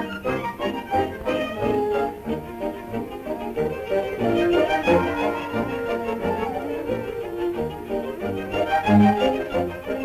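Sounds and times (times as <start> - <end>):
orchestral strings playing: 0.0 - 10.0.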